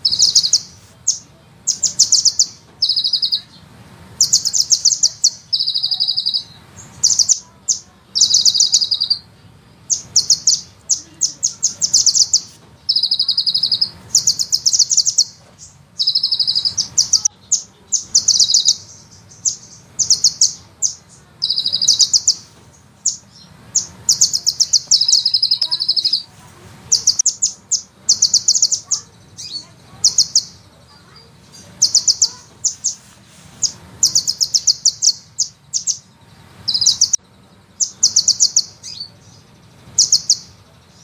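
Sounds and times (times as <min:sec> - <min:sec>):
bird singing rapid trills: 0:00.0 - 0:41.0.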